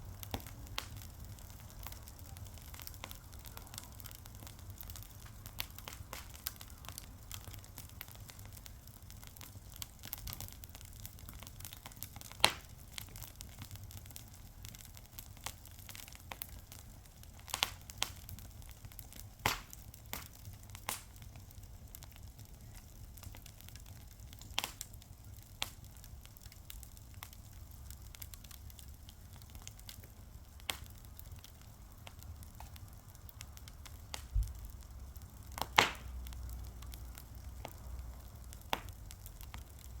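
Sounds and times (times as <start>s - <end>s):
fire crackling and popping: 0.0s - 40.0s
wood fire rumbling: 0.0s - 40.0s.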